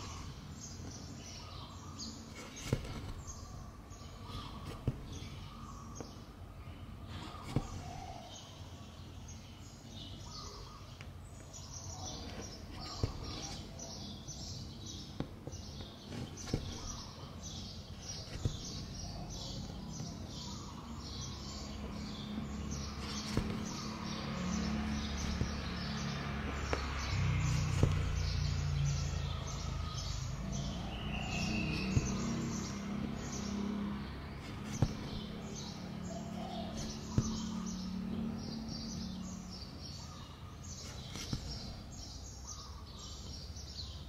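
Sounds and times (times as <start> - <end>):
small bird chirping: 7.1 - 44.0.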